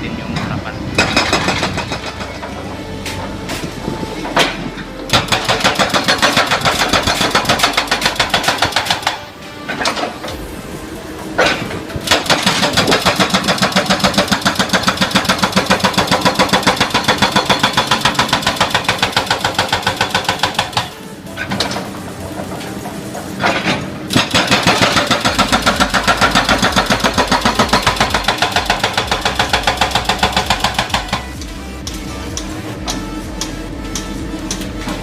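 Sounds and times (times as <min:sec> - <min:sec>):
hydraulic hammer pounding: 0:00.3 - 0:10.4, 0:11.2 - 0:35.0.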